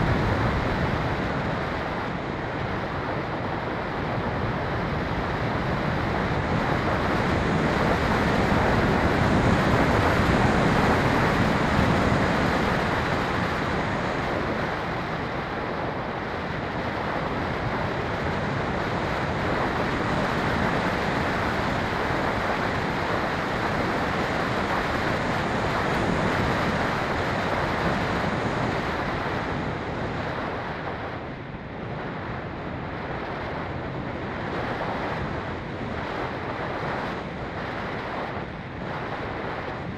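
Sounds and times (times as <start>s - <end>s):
rushing wind noise: 0.0s - 39.9s.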